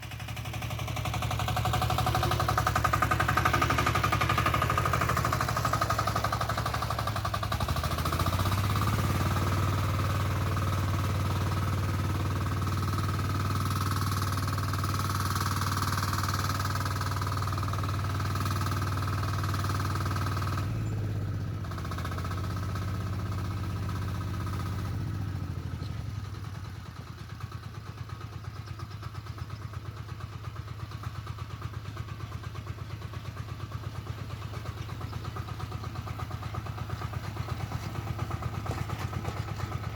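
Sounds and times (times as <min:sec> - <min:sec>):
diesel tractor engine revving: 0:00.0 - 0:39.9.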